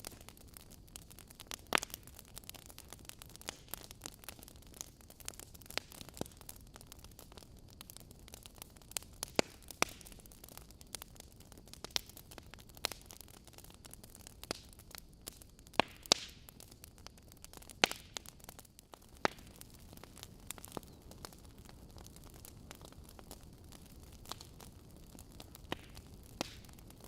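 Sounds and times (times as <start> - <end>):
logs crackling in fireplace: 0.0 - 27.0.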